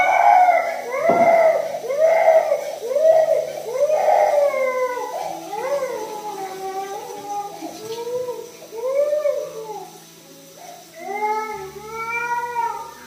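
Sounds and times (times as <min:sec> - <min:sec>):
toddler crying: 0:00.0 - 0:13.0.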